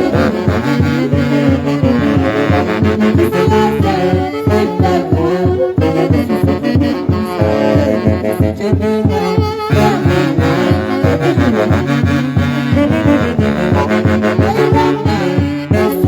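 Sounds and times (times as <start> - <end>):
driving beat: 0.0 - 16.0
saxophones and brass melody: 0.0 - 16.0.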